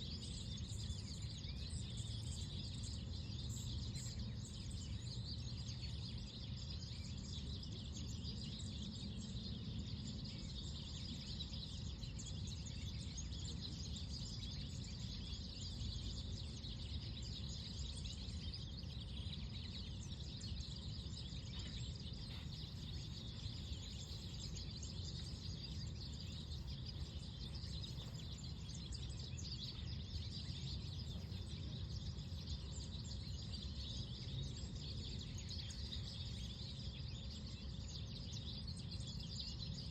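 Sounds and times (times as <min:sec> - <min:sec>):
low rumble of wind: 0:00.0 - 0:39.9
small birds chirping: 0:00.0 - 0:39.9.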